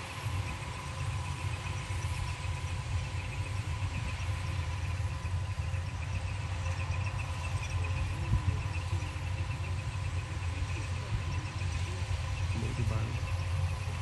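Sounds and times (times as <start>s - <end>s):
engine running with high whine: 0.0s - 14.0s.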